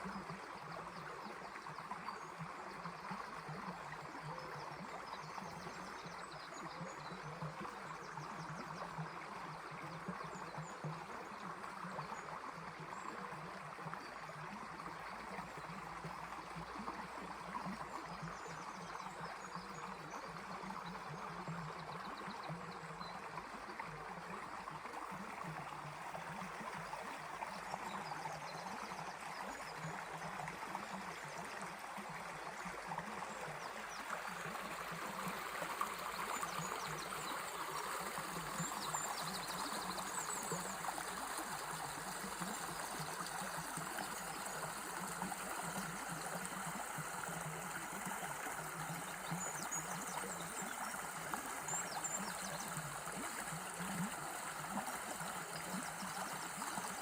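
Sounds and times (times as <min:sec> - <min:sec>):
small river flowing: 0:00.0 - 0:57.0.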